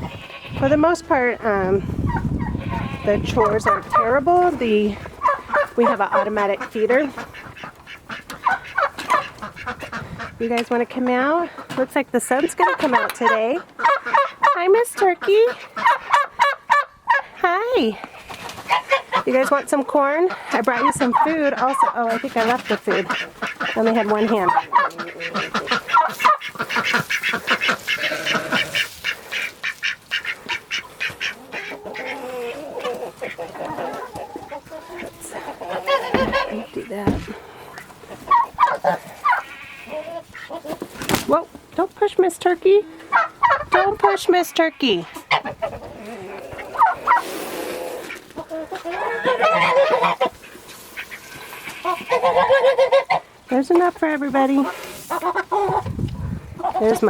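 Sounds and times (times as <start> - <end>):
poultry calling: 0.0 - 41.9, 42.7 - 57.0
chickens and turkey clucking: 0.0 - 57.0.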